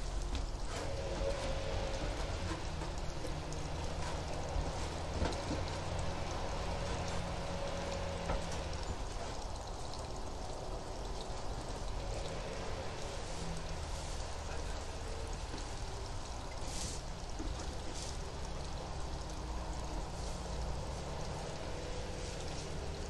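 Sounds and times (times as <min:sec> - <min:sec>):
constant hiss: 0:00.0 - 0:23.0
distant lawn-care engine: 0:00.0 - 0:23.0.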